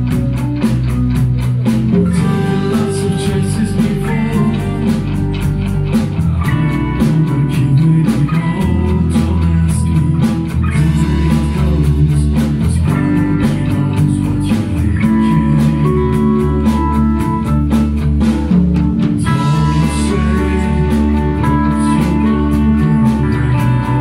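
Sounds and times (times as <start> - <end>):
bass guitar: 0.0 - 24.0
electric guitars: 0.0 - 24.0.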